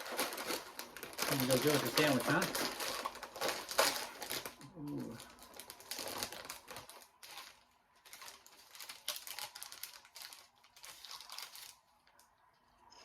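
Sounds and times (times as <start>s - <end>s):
chip bag crinkling: 0.0s - 12.3s.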